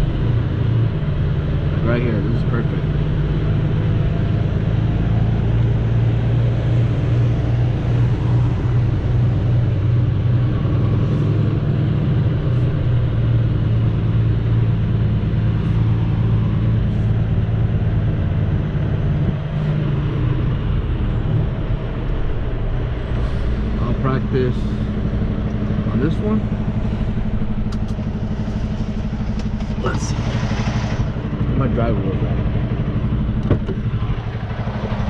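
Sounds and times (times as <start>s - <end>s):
diesel truck engine running: 0.0s - 35.0s.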